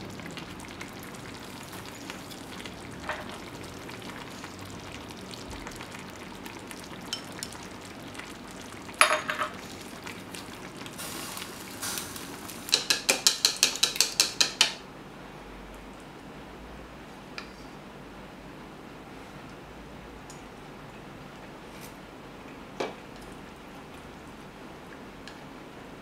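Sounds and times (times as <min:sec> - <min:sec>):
broth simmering with soft sizzle: 0:00.0 - 0:26.0.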